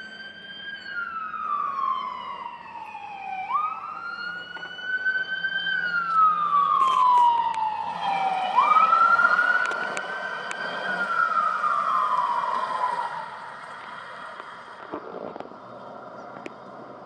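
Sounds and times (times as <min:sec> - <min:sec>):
ambulance siren wailing: 0:00.0 - 0:14.0.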